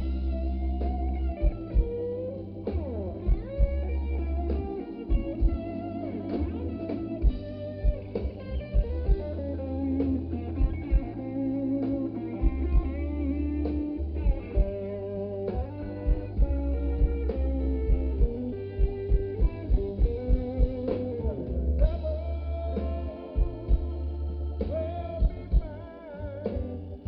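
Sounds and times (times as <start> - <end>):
steady drum beat: 0.0 - 25.8
bass: 0.0 - 27.0
blues guitar with bent notes: 0.0 - 27.0.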